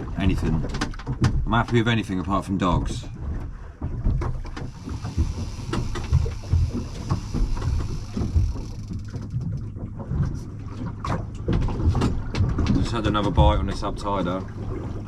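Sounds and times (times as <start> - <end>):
soft thumps and knocks on boat: 0.0 - 15.0
low rumble: 1.4 - 15.0.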